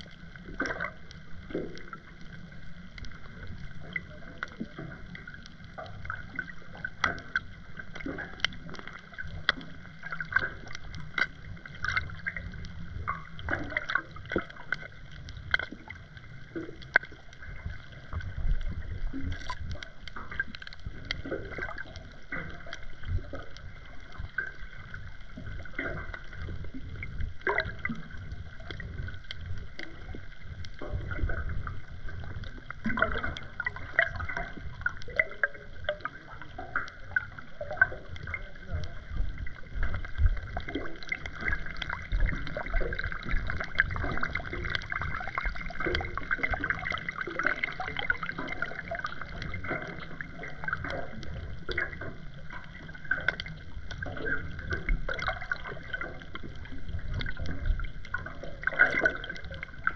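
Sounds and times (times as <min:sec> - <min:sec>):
underwater clicks and crackles: 0:00.0 - 0:59.9
underwater rumble of moving water: 0:00.0 - 0:59.9.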